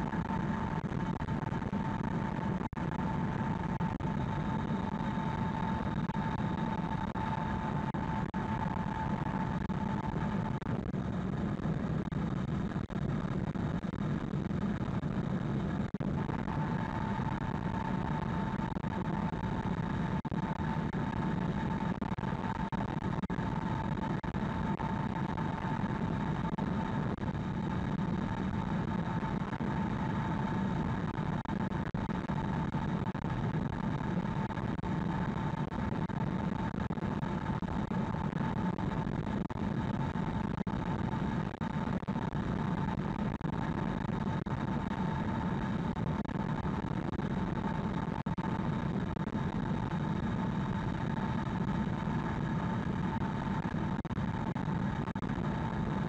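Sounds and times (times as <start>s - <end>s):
steady whine: 0.0s - 56.0s.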